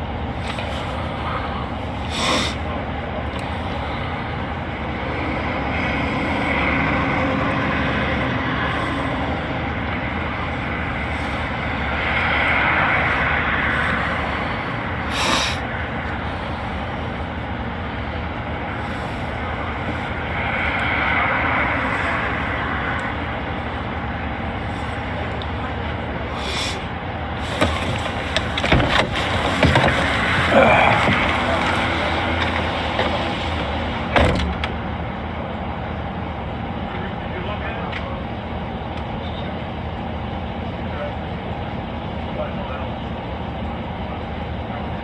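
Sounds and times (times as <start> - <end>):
car engine running: 0.0 - 39.5.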